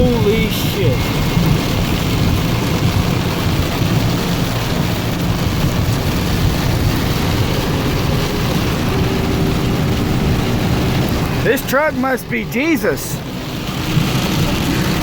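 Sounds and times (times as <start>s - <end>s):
heavy rain: 0.0s - 15.0s
truck engine low rumble: 0.0s - 15.0s
water thrown up by tyres: 0.0s - 15.0s.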